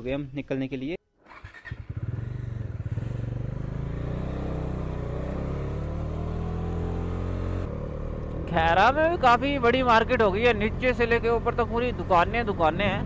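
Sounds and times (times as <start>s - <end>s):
motorcycle engine: 1.2s - 13.0s.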